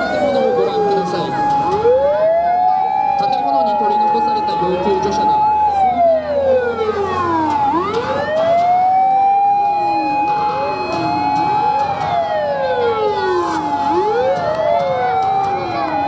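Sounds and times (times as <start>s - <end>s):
fire engine sirens: 0.0s - 16.0s.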